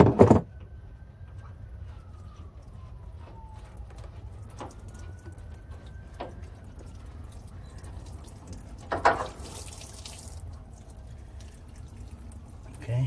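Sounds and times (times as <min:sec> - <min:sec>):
fuel dripping into a plastic tub: 0:02.0 - 0:13.0.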